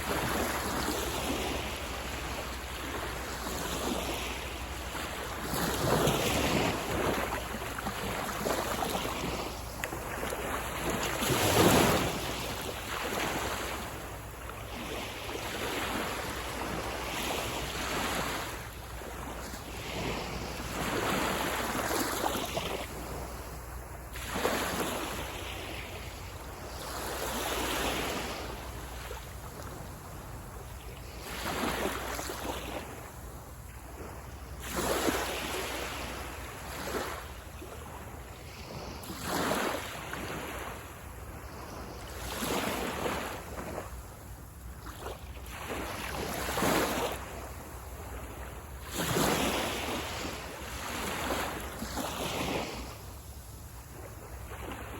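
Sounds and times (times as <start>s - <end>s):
sea waves breaking on sand: 0.0s - 54.9s.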